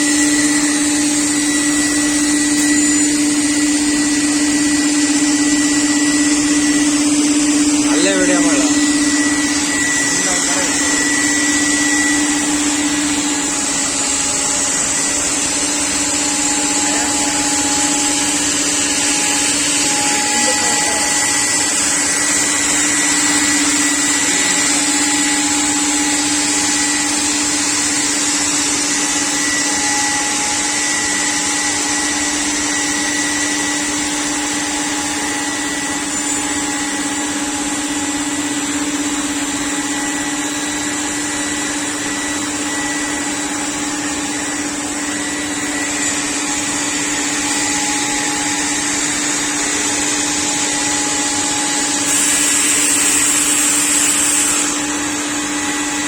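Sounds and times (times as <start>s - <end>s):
machine hum and whine: 0.0s - 56.0s.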